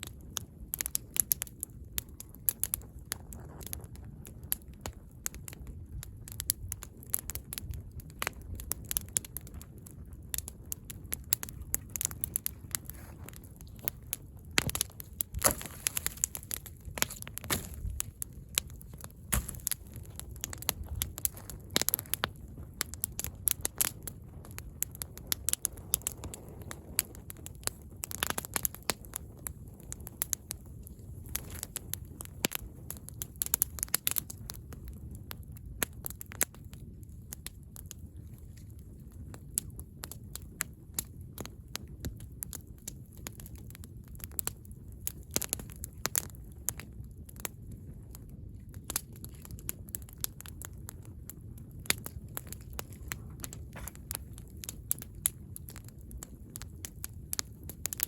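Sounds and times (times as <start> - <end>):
crackling and crunching pops: 0.0 - 58.0.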